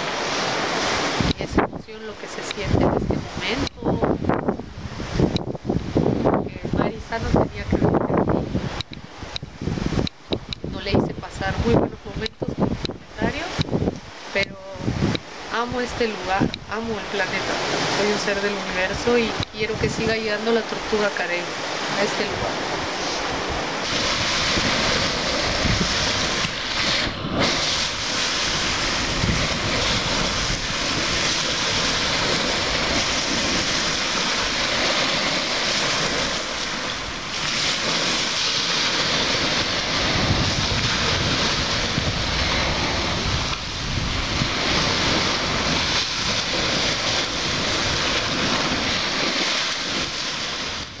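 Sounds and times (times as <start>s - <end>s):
surf washing on shore: 0.0s - 51.0s
wind buffeting microphone: 0.0s - 51.0s.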